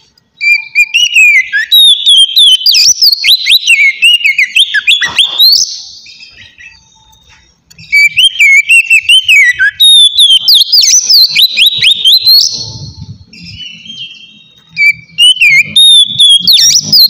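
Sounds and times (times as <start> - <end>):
bird singing whistled phrases: 0.4 - 7.0, 7.8 - 17.0.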